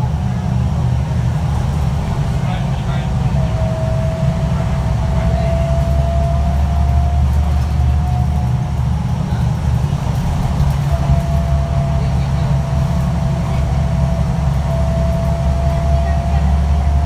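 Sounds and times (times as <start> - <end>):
bus engine hum: 0.0 - 17.0.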